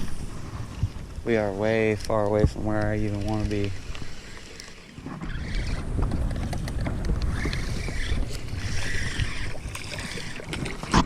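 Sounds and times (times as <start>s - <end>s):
wind buffeting microphone: 0.0s - 4.2s, 5.0s - 11.0s
water splashing against hull: 0.0s - 11.0s.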